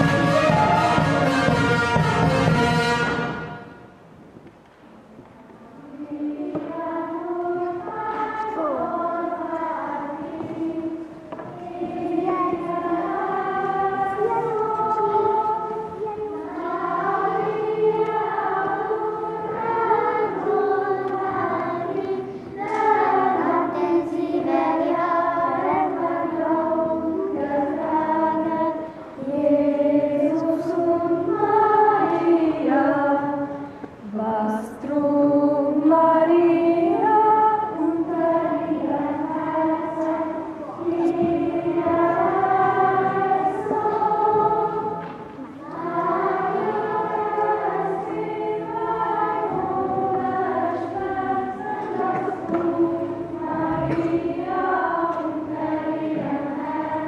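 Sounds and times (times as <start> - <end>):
choir singing slow melody: 0.0 - 4.0, 5.5 - 57.0.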